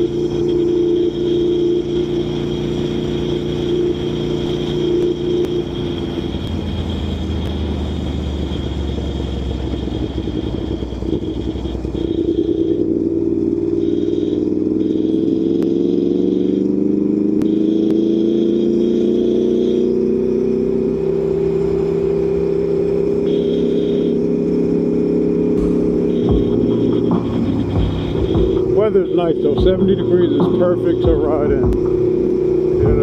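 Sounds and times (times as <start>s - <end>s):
motorcycle engine under way: 0.0s - 33.0s.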